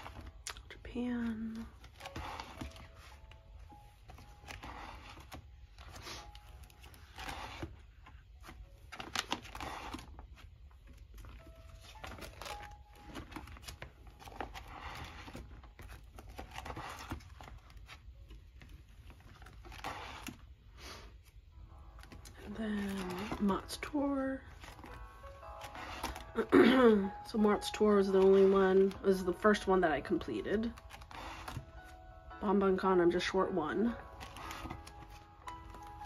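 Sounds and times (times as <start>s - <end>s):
plastic sleeves crinkling: 0.0s - 32.4s, 33.2s - 36.0s.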